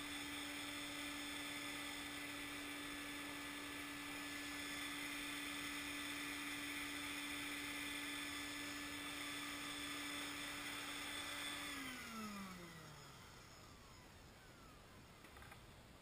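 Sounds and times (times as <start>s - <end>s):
shop vacuum running and spinning down: 0.0s - 16.0s.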